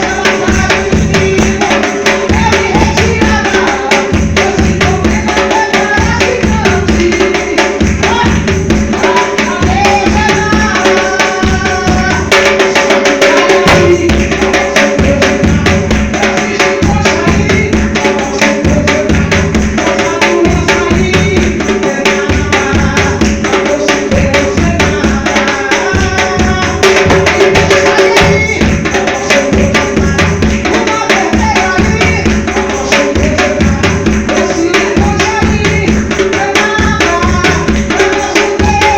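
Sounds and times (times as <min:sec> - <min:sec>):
bass drum marking the beat: 0:00.0 - 0:38.9
hand drums with rapid strokes: 0:00.0 - 0:38.9.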